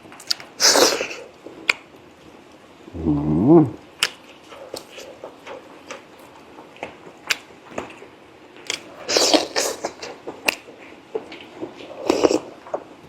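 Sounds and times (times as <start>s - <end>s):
close chewing with wet mouth sounds: 0.0s - 2.4s, 3.8s - 13.0s.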